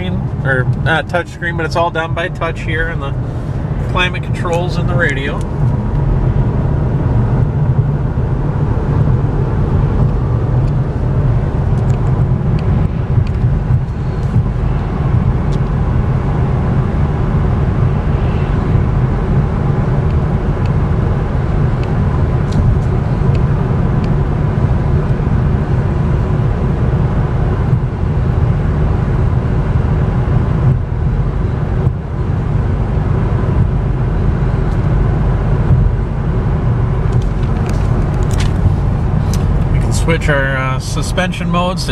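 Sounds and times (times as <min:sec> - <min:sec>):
road and tyre rumble: 0:00.0 - 0:41.9.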